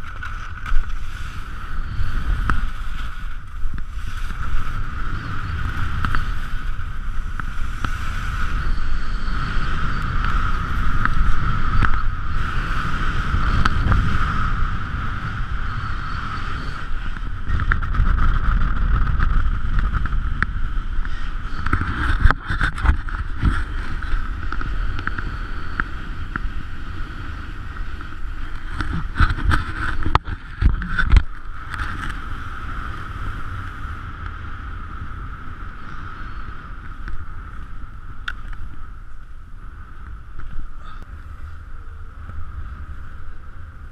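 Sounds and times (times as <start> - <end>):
skis running over snow: 0.0 - 39.4
wind rushing over microphone: 0.0 - 43.9.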